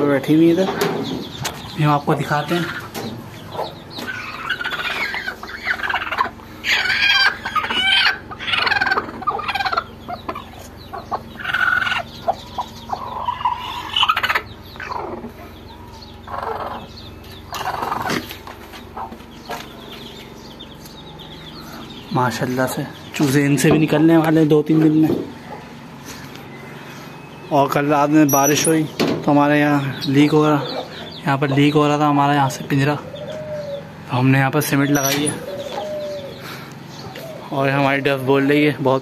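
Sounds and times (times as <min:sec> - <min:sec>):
hen clucking: 0:00.0 - 0:39.0.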